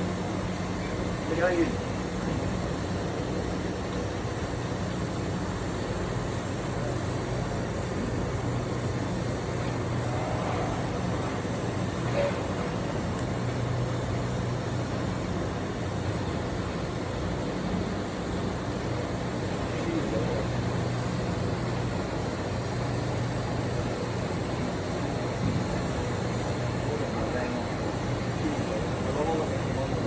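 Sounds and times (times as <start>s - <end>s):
mechanical hum of equipment: 0.0s - 30.0s.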